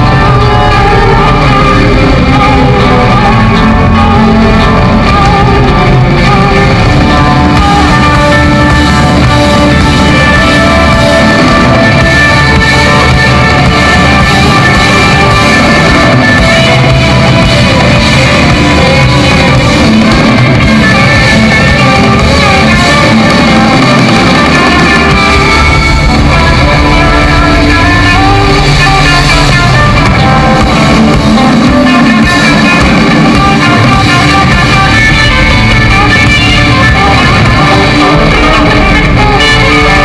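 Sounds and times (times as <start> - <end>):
drums: 0.0 - 40.0
electric guitars: 0.0 - 40.0.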